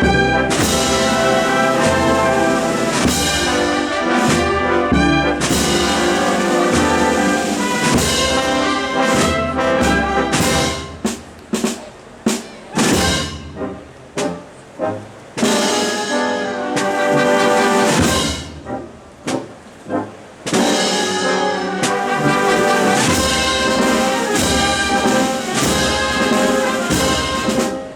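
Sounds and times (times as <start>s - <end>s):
trumpets and trombones: 0.0s - 27.9s
wind band playing a march: 0.0s - 27.9s.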